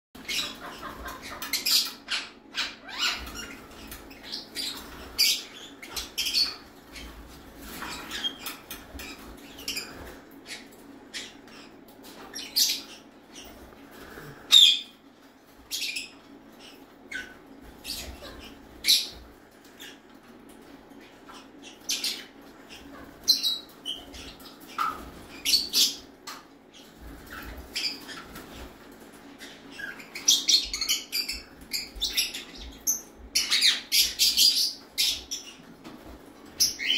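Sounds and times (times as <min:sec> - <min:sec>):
parakeets chirping and squawking: 0:00.2 - 0:36.9.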